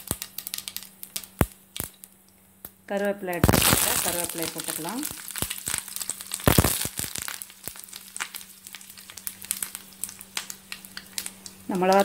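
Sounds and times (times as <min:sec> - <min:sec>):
spices crackling in hot oil: 0:00.0 - 0:12.0.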